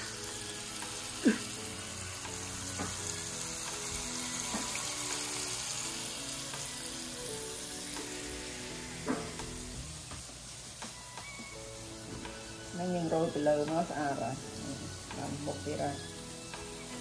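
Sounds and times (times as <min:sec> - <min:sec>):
background music: 0:00.0 - 0:17.0
shrimp deep-frying in oil: 0:00.0 - 0:17.0.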